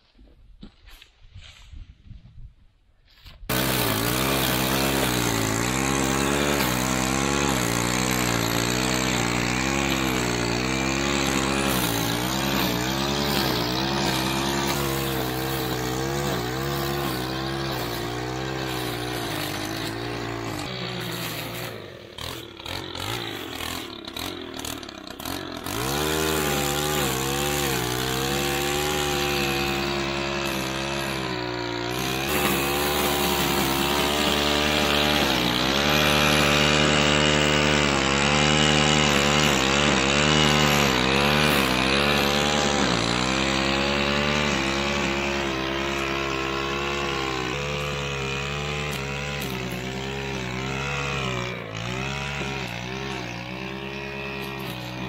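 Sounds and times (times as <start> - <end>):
string trimmer cutting grass: 3.3 - 55.0.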